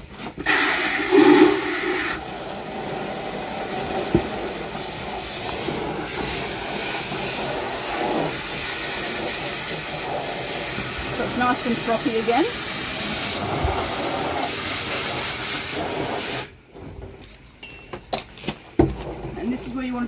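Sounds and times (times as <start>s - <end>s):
hose nozzle spraying water: 0.1s - 16.6s.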